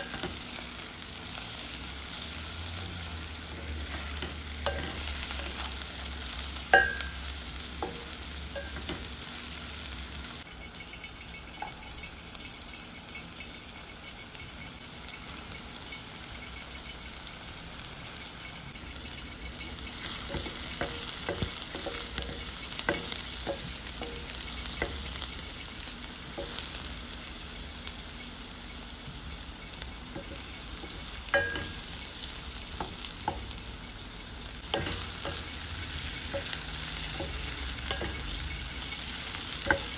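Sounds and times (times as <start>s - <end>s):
onions sizzling in oil: 0.0s - 39.9s.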